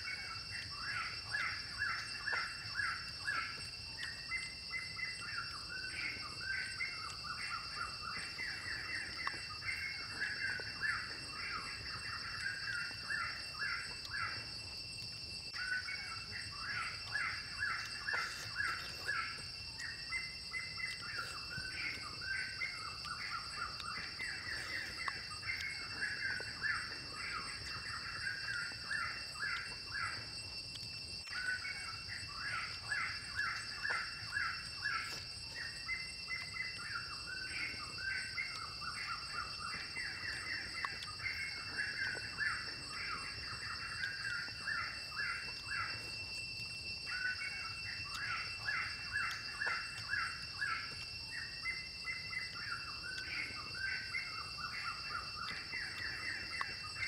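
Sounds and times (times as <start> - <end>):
high-pitched insect drone: 0.0 - 57.0.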